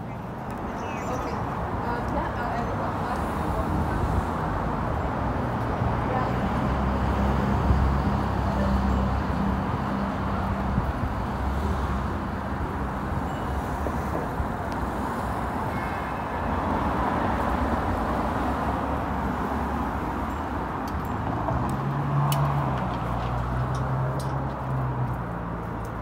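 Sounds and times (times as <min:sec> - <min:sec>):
passing cars: 0:00.0 - 0:26.0.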